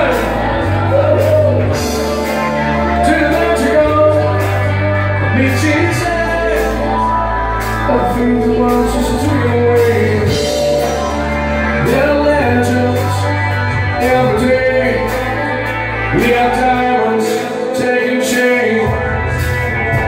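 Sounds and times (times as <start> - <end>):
electric guitar: 0.0 - 20.0
live band playing dance song: 0.0 - 20.0
person singing: 0.0 - 20.0.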